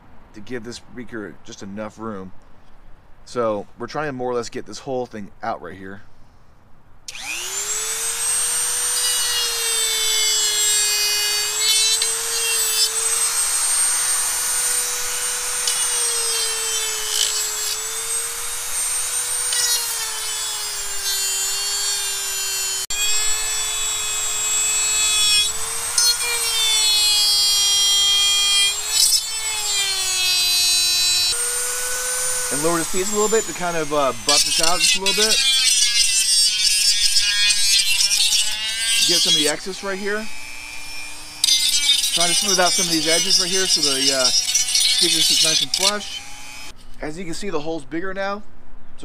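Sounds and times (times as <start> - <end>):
rotary tool grinding plastic: 7.1 - 47.1.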